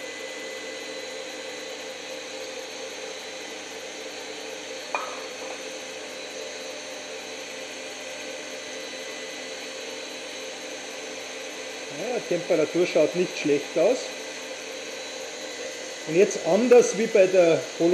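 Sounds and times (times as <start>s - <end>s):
stand mixer whipping: 0.1s - 17.9s.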